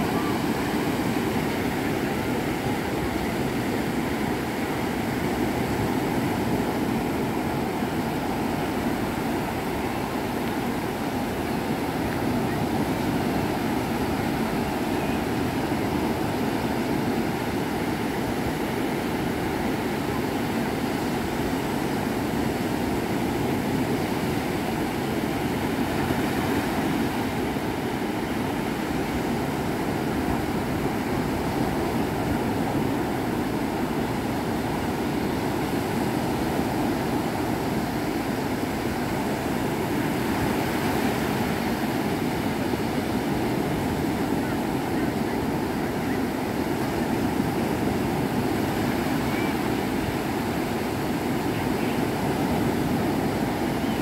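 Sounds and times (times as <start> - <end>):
waves washing up a beach: 0.0 - 54.0.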